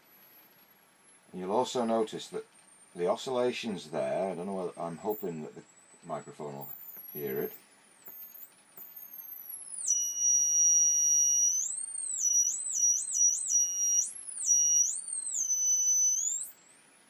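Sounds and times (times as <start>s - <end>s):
high-pitched electronic whine: 0.0s - 17.0s.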